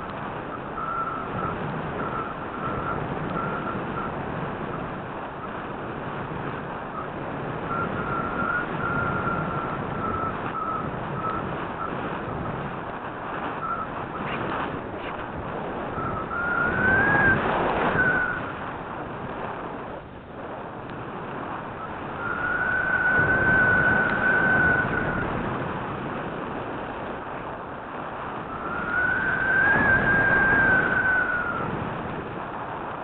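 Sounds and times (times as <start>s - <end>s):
airflow rushing over camera: 0.0s - 33.0s
high steady whine: 0.0s - 33.0s.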